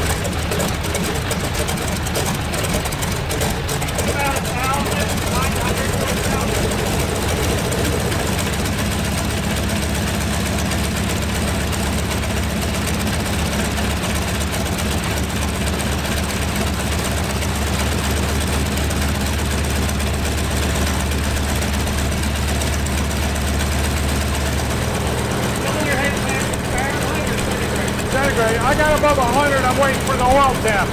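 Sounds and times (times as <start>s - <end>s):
radial aircraft engine running: 0.0s - 30.9s.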